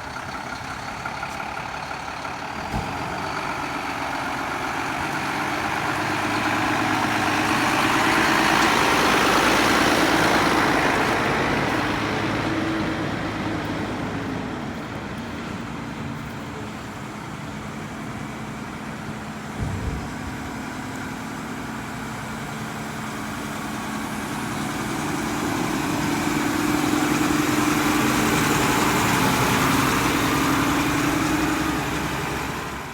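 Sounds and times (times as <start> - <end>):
garbage truck diesel engine revving: 0.0 - 32.9.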